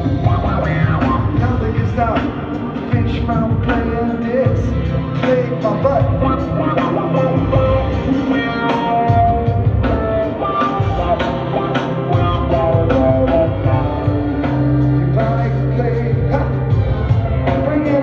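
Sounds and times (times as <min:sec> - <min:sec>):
rock band jamming: 0:00.0 - 0:18.0.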